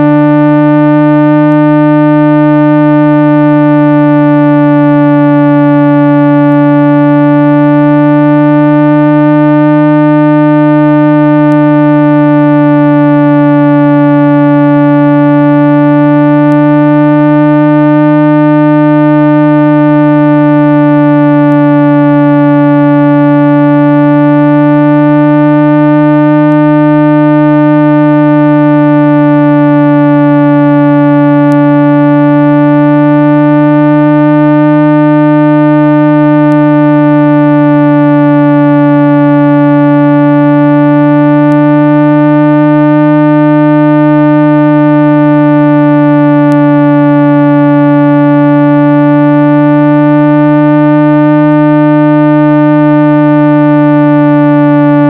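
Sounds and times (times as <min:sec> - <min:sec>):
low electronic hum tone: 0:00.0 - 0:55.0.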